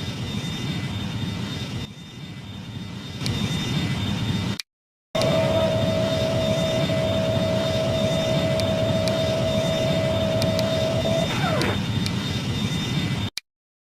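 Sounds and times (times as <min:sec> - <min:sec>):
jet engines rumbling and whining: 0:00.0 - 0:04.6, 0:05.2 - 0:13.4.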